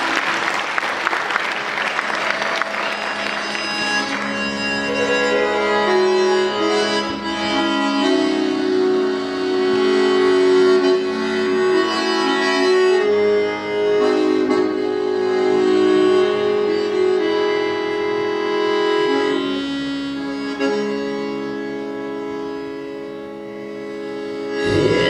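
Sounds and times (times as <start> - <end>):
button accordion playing chords: 1.5 - 25.0.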